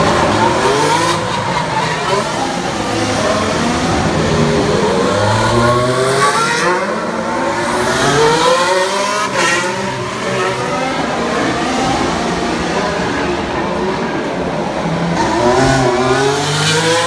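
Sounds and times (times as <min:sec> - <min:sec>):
racing car engine accelerating: 0:00.0 - 0:17.0.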